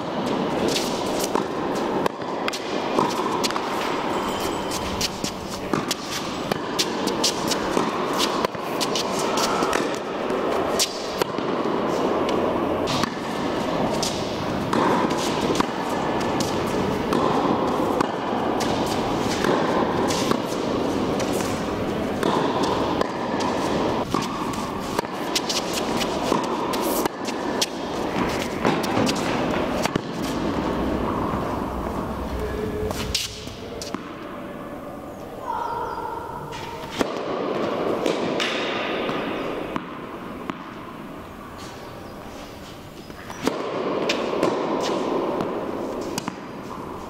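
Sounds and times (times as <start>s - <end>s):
background noise: 0.0s - 47.0s.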